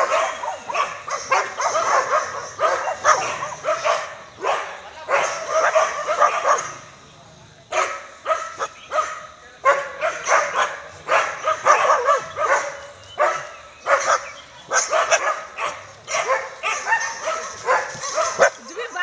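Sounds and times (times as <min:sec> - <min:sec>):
dogs barking: 0:00.0 - 0:07.0, 0:07.6 - 0:19.0.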